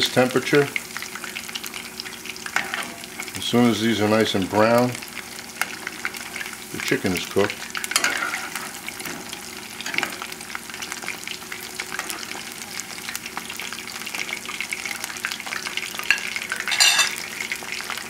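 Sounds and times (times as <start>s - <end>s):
oil crackling and bubbling: 0.0s - 18.0s.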